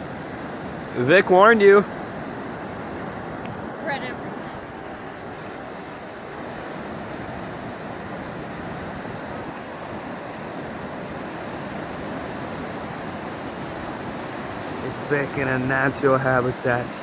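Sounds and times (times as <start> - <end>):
ocean surf: 0.0 - 17.0
wind: 0.0 - 17.0.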